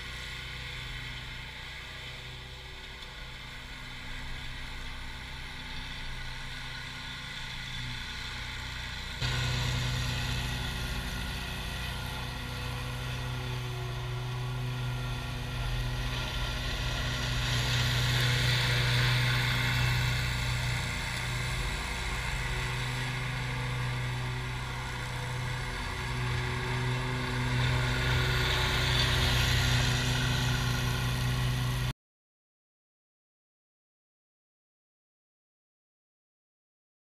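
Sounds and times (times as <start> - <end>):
mower engines running: 0.0 - 31.9
rush of mower blades: 0.0 - 31.9.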